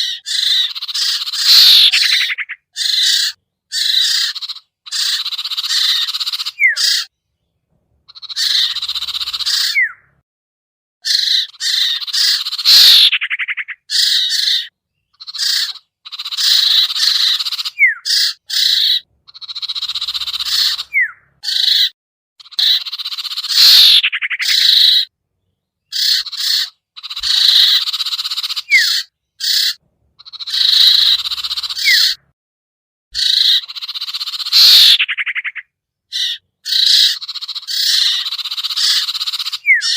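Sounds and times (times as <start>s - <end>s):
bird harsh chattering calls: 0.0s - 7.1s, 8.0s - 10.2s, 11.0s - 25.1s, 25.8s - 32.3s, 33.2s - 39.9s
bird whistled slur: 0.0s - 7.1s, 8.4s - 10.1s, 11.1s - 21.9s, 22.5s - 25.1s, 25.9s - 29.8s, 30.4s - 32.2s, 34.3s - 35.6s, 36.2s - 39.9s.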